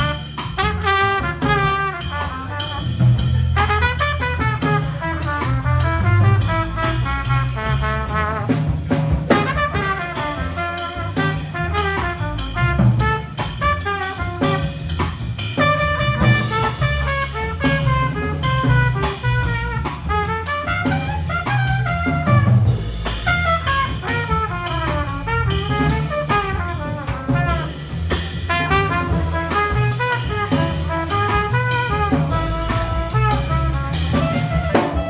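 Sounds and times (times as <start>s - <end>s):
clarinet melody: 0.0s - 3.0s, 3.6s - 8.5s, 9.4s - 14.8s, 15.6s - 22.6s, 23.3s - 27.8s, 28.5s - 35.0s
double bass: 0.0s - 35.0s
drum kit: 0.0s - 35.0s
trumpet melody: 0.0s - 35.0s.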